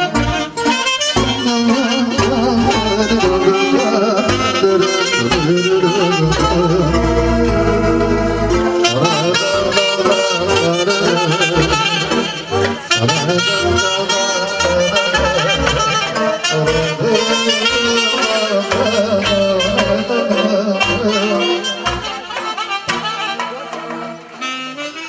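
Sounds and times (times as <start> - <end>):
electronic keyboard with bass line: 0.0 - 25.0
saxophone melody: 0.0 - 25.0.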